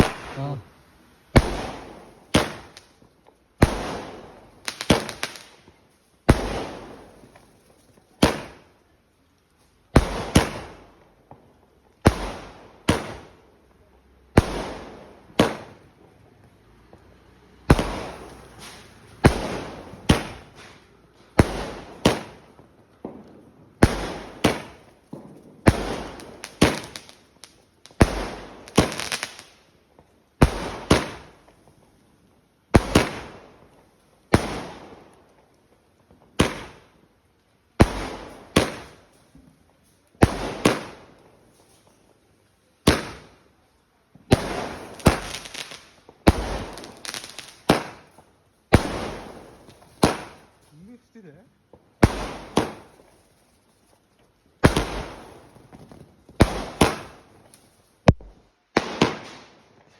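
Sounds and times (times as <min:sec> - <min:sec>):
fireworks sharp bangs echoing: 0:00.0 - 0:08.8, 0:09.9 - 0:16.3, 0:16.9 - 0:31.9, 0:32.7 - 0:35.5, 0:36.1 - 0:37.0, 0:37.8 - 0:39.6, 0:40.2 - 0:42.2, 0:42.8 - 0:43.5, 0:44.1 - 0:53.4, 0:54.6 - 0:59.9.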